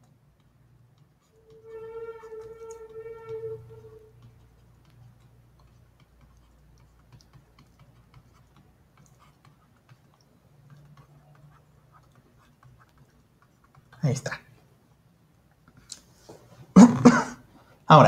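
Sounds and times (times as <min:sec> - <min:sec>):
low steady hum: 0:00.0 - 0:17.4.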